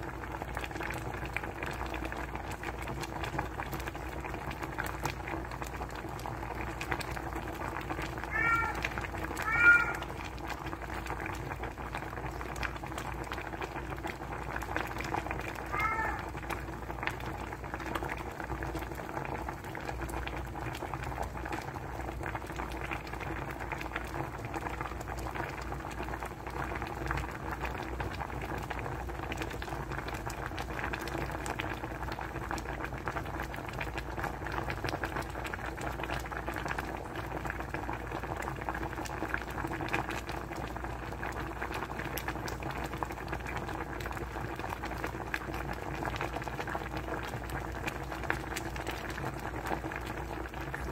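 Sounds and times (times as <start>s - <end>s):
soup boiling and bubbling: 0.0s - 50.9s.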